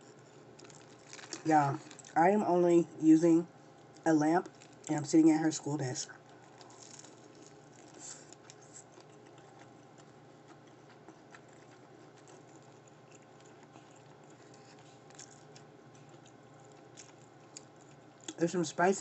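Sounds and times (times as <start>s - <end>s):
faint chewing: 0.0s - 2.2s, 3.7s - 4.9s, 6.1s - 18.6s
low steady hum: 0.0s - 19.0s.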